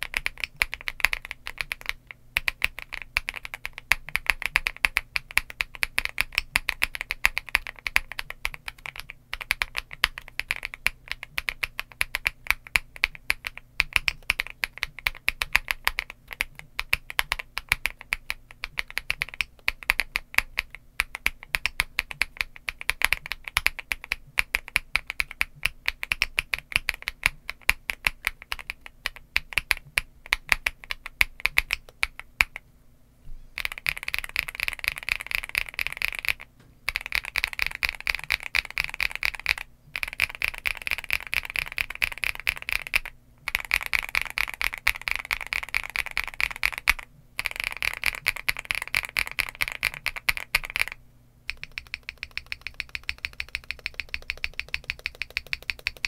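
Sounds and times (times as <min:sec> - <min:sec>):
mechanical keyboard typing: 0:00.0 - 0:32.6, 0:33.6 - 0:56.0.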